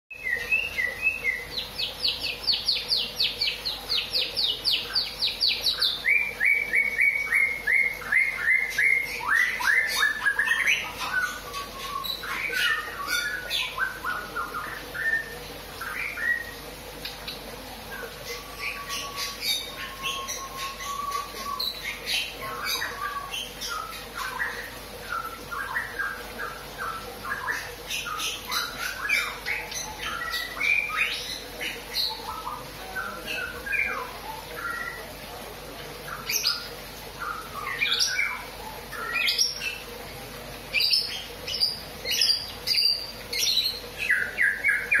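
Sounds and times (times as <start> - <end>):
bird chirping and trilling: 0.1 - 45.0
faint steady hum: 0.1 - 45.0.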